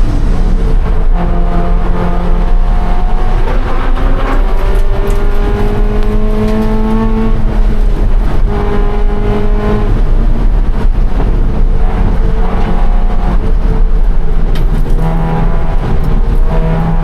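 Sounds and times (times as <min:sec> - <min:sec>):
car engine accelerating: 0:00.0 - 0:17.0
road and wind noise: 0:00.0 - 0:17.0.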